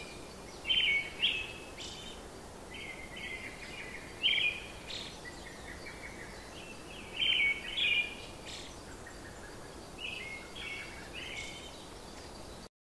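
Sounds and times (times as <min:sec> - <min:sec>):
background hiss: 0:00.0 - 0:12.7
bird chirping: 0:00.0 - 0:12.7.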